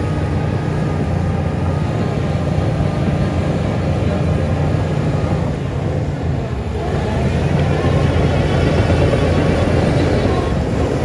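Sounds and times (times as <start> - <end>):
heavy machinery diesel engine: 0.0 - 11.0.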